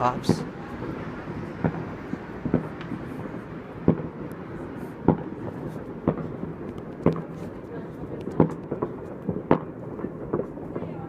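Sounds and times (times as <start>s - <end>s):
fireworks popping: 0.0s - 11.0s.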